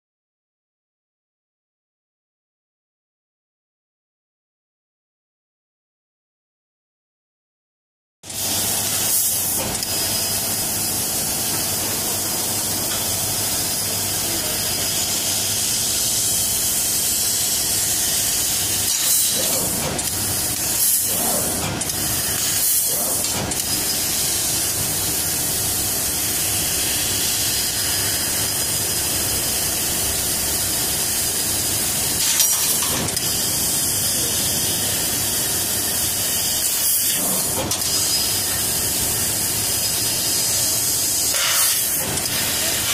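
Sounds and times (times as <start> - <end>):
laser cutting machine hissing: 8.3 - 42.9.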